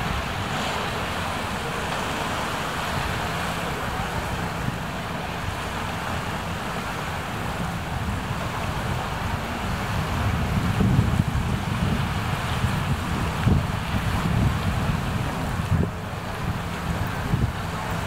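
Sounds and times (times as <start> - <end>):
floodwater rushing: 0.0 - 18.0
wind buffeting microphone: 0.0 - 18.0.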